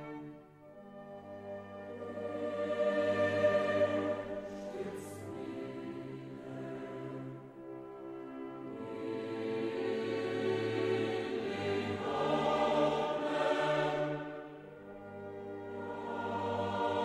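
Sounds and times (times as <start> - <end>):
choral and orchestral music: 0.0 - 17.0.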